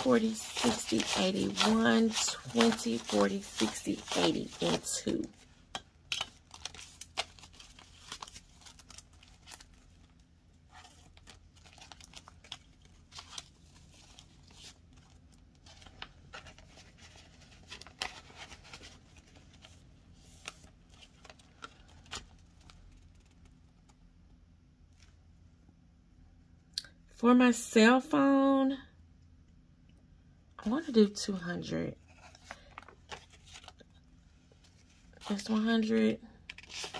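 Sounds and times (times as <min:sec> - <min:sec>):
paper and vinyl rustling: 0:00.0 - 0:24.0, 0:30.8 - 0:36.9.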